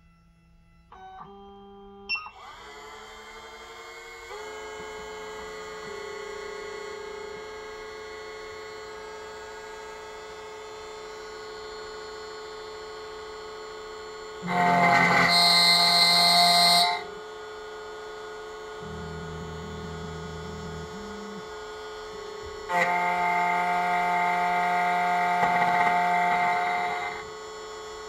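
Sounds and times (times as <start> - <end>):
key cutting machine motor whine: 1.0 - 28.0.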